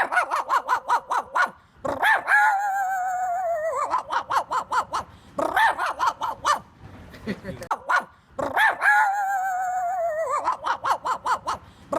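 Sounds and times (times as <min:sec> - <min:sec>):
man whining like a dog: 0:00.0 - 0:06.5, 0:07.7 - 0:11.6.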